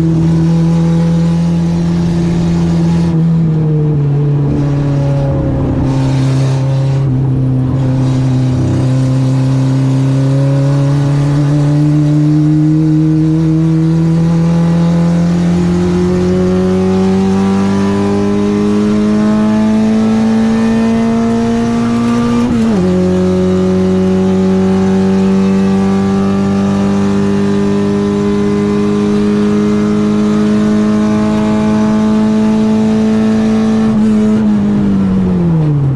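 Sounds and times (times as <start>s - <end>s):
car engine at full throttle: 0.0s - 35.9s.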